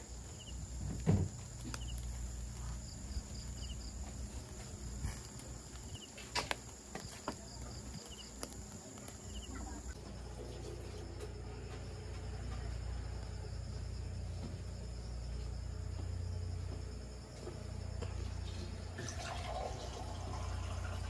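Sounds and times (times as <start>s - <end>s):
insects trilling and chirping: 0.0s - 21.0s.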